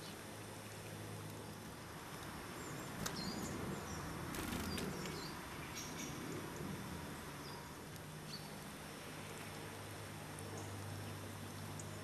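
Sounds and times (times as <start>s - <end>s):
small birds chirping: 0.0s - 9.6s
steady outdoor hiss: 0.0s - 12.0s.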